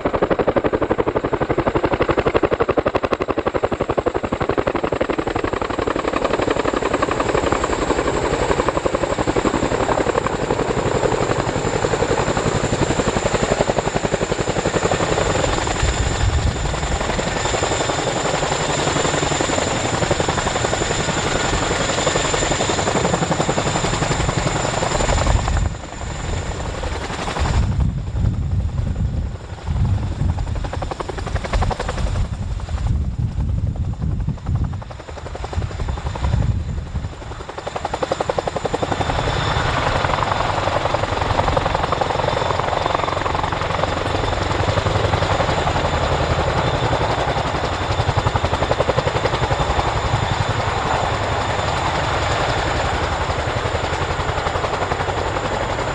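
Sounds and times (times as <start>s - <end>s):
helicopter rotors beating: 0.0s - 55.9s.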